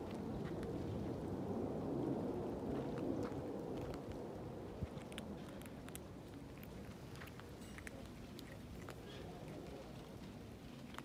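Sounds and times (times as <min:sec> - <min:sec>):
kittens chewing: 0:02.2 - 0:11.0.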